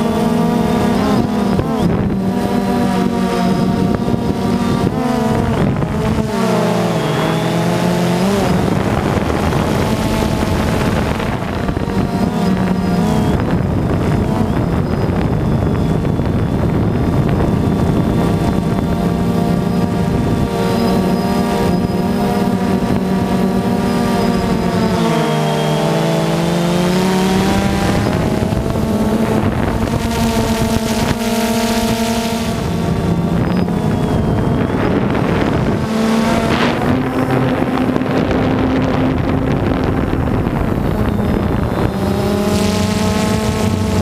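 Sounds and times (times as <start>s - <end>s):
drone motors buzzing: 0.0s - 44.0s.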